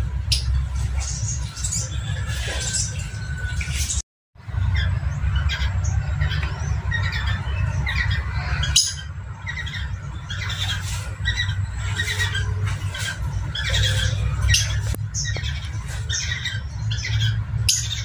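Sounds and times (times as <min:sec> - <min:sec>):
parrots squawking and chirping: 0:00.2 - 0:18.0.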